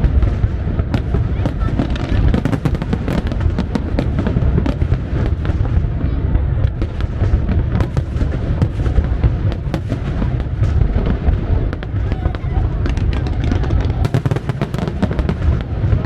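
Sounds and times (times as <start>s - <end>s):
fireworks bursts rumbling: 0.0s - 16.0s
fireworks crackles and pops: 0.0s - 16.0s.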